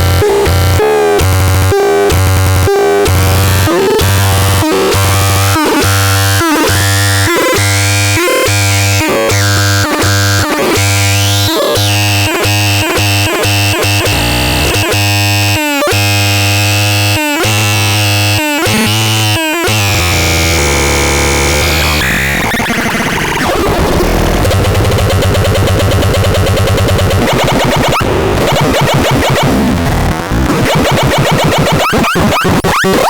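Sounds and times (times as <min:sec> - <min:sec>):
harsh synthesizer music: 0:00.0 - 0:33.0.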